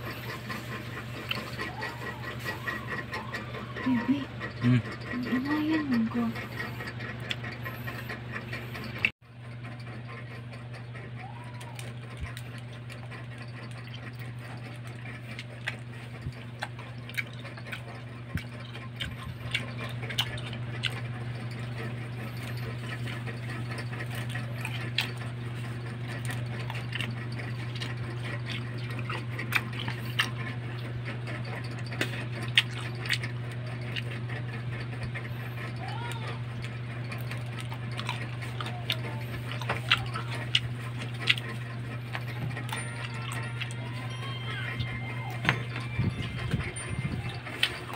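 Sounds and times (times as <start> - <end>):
wet chewing mouth sounds: 0.0 - 9.1, 10.0 - 47.9
steady low hum: 0.0 - 47.9.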